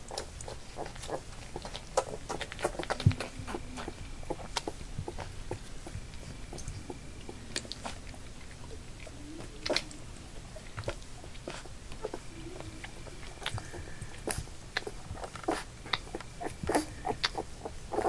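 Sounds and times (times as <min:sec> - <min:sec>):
puppy grunts: 0:00.0 - 0:10.0, 0:10.6 - 0:18.0
puppies scuffling and mouthing: 0:00.0 - 0:18.0.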